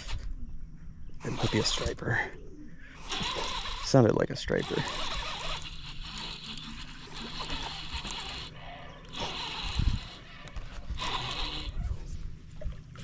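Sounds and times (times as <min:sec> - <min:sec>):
fishing reel whirring: 0:01.2 - 0:02.2, 0:02.8 - 0:12.3.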